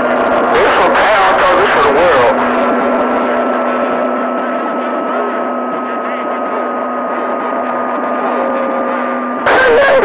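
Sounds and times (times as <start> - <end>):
low hum: 0.0 - 10.0
radio static hiss: 0.0 - 10.0.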